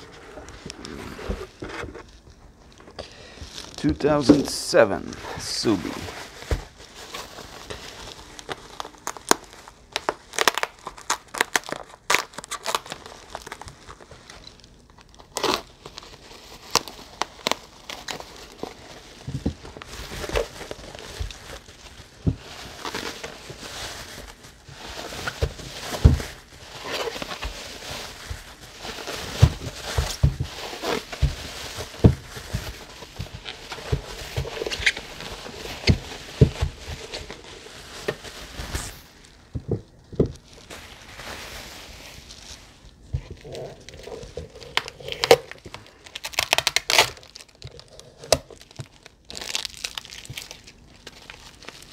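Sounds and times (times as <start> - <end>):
bubble wrap rustling and crackling: 0.0 - 51.9.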